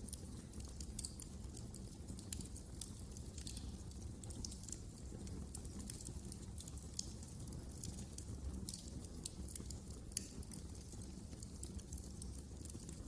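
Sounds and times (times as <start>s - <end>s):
fireplace fire crackling: 0.0s - 13.0s.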